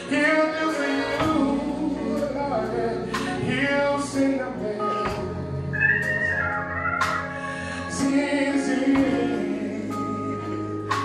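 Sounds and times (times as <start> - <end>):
electric bass: 0.0 - 11.0
keyboard: 0.0 - 11.0.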